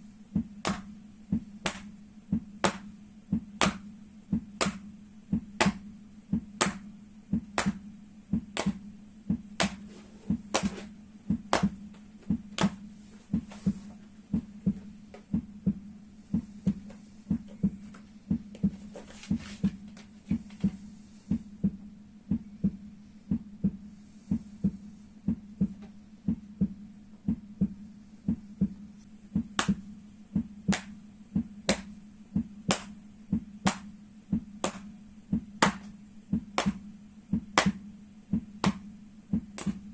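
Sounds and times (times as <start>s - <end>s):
steady hum: 0.0s - 39.9s
rhythmic strikes on feet: 0.3s - 39.9s.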